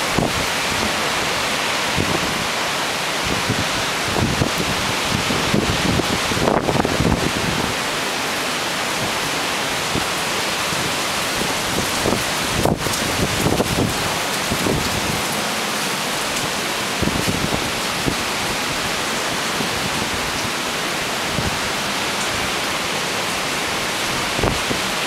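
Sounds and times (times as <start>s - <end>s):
rain splashing on wet surfaces: 0.0s - 25.0s.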